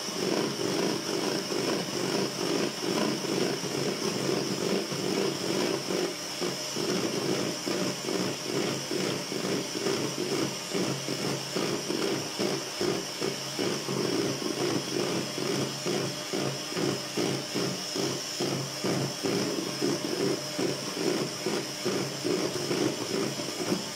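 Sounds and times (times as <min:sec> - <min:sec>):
electric mixer running: 0:00.0 - 0:23.9.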